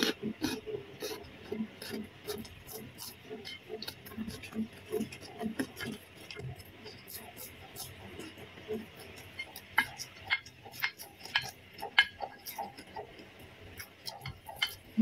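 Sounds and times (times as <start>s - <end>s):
cucumber crunching: 0.0s - 13.3s.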